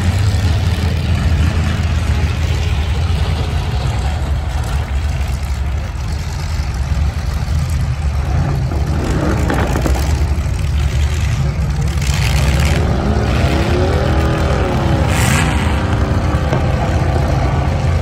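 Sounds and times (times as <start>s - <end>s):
vehicle engines idling: 0.0s - 18.0s.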